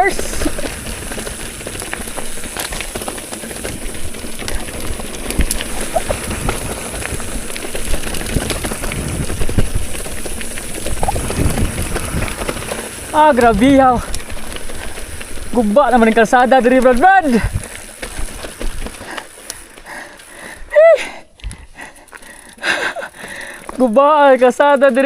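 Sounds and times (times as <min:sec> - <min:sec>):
bike rolling over rough road: 0:00.0 - 0:20.7, 0:21.4 - 0:25.0.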